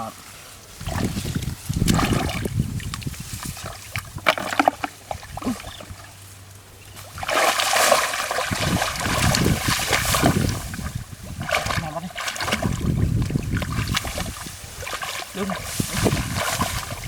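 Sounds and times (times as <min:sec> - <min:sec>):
muddy water splashing: 0:00.1 - 0:17.0.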